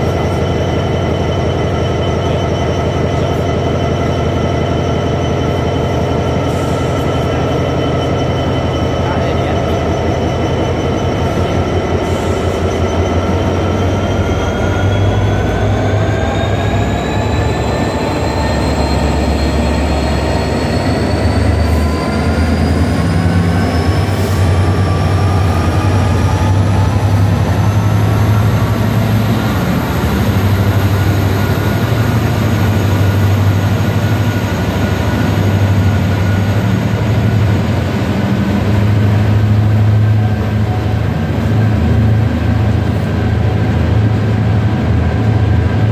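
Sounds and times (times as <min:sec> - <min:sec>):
diesel locomotive engine drone: 0:00.0 - 0:45.9
rising locomotive whine: 0:00.0 - 0:45.9.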